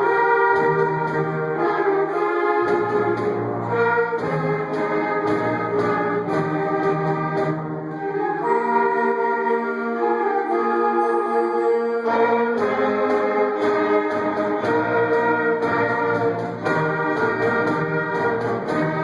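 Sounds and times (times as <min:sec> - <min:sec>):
orchestral brass march: 0:00.0 - 0:19.0.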